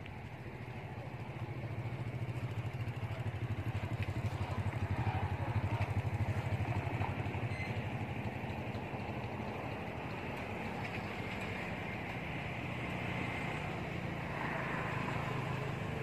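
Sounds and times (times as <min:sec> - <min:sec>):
small engine idling: 0:00.1 - 0:16.0.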